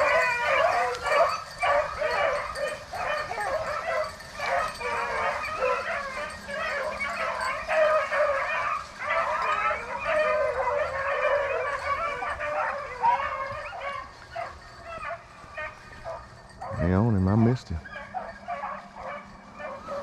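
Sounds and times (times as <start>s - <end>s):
hounds baying: 0.0s - 20.0s.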